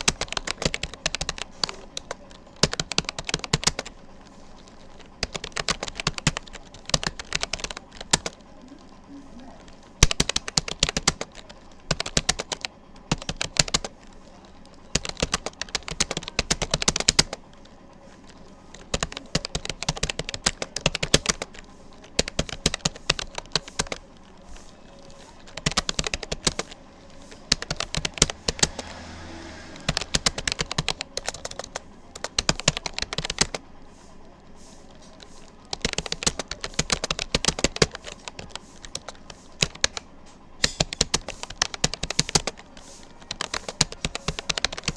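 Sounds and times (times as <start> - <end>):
fast typing on computer keyboard: 0.0 - 44.9.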